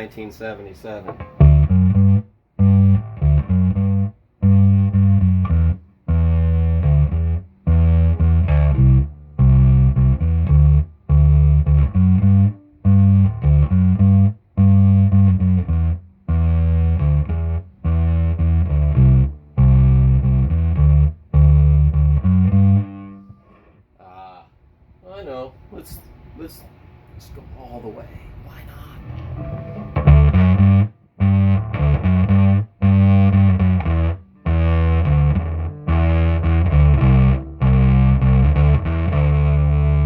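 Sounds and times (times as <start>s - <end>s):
distorted electric bass riff: 1.1s - 24.2s, 29.2s - 40.0s.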